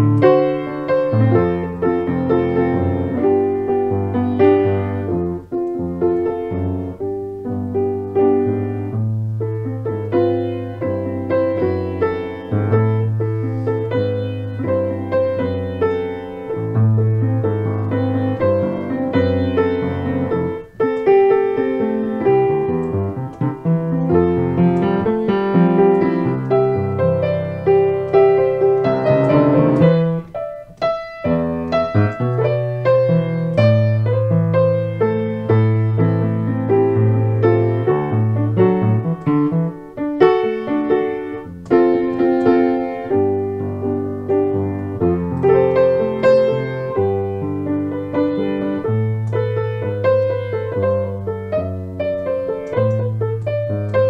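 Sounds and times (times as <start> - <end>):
piano piece: 0.0 - 54.0.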